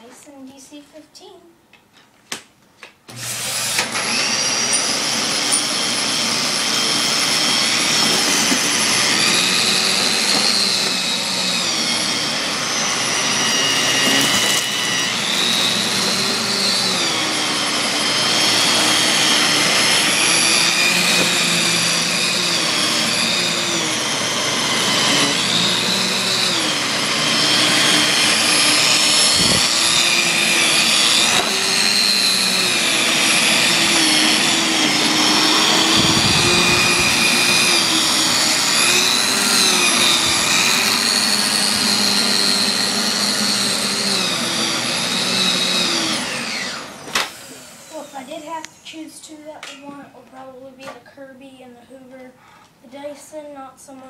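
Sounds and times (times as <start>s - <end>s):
vacuum cleaner motor whining: 3.1s - 49.0s.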